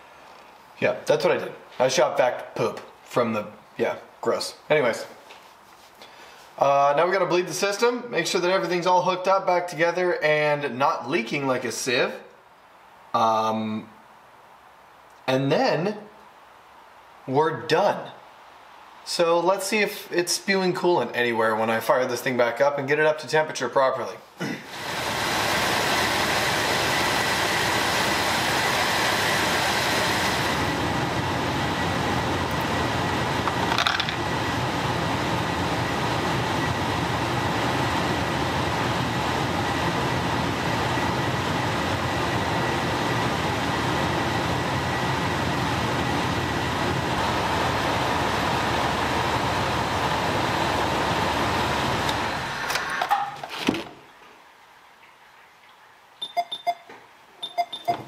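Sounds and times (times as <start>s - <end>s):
heater fan blowing: 0.0s - 53.5s.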